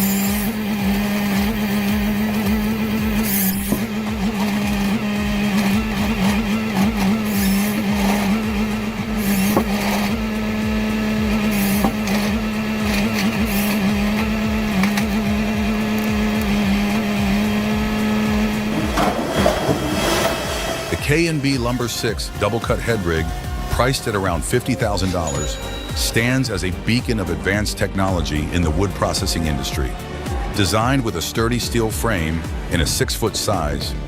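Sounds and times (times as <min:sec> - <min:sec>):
heavy machinery humming: 0:00.0 - 0:34.0.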